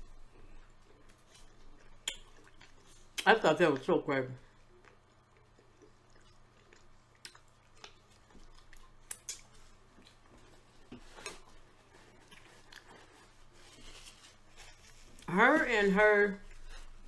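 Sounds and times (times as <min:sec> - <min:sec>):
person chewing: 0:00.0 - 0:03.3, 0:04.5 - 0:15.3.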